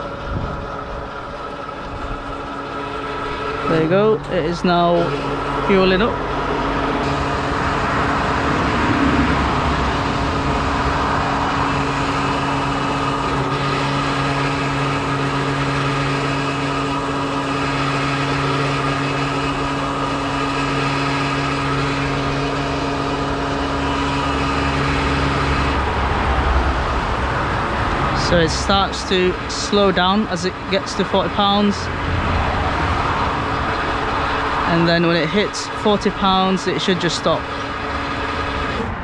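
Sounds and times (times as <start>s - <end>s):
fuel pump motor hum: 0.0s - 39.0s.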